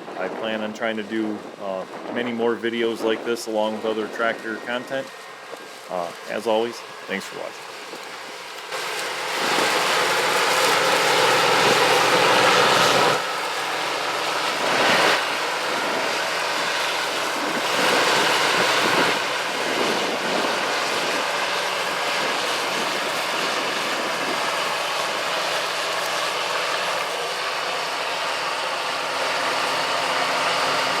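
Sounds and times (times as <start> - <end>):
farm machinery engine drone: 0.0 - 31.0
rushing mechanical noise: 1.4 - 31.0.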